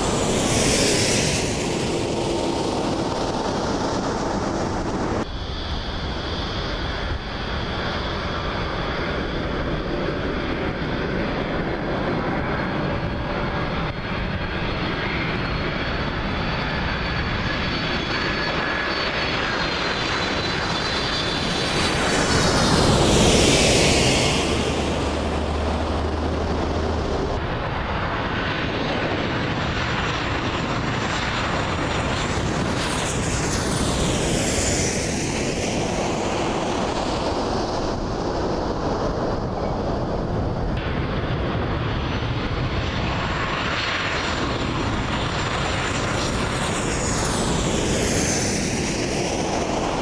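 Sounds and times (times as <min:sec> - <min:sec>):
jet airliner passing overhead: 0:00.0 - 0:50.0.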